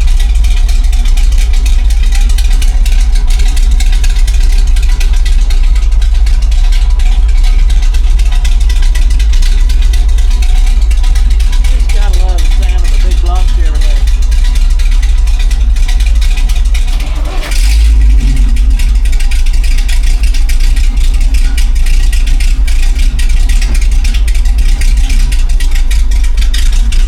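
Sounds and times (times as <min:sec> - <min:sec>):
deep truck exhaust rumble: 0:00.0 - 0:27.0.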